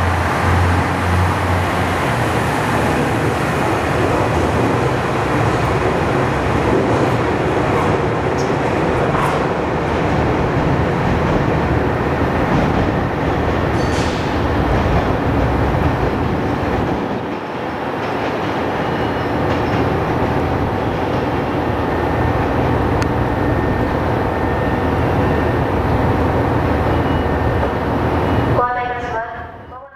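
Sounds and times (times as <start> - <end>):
diesel railcar engine and rail rumble: 0.0 - 29.9.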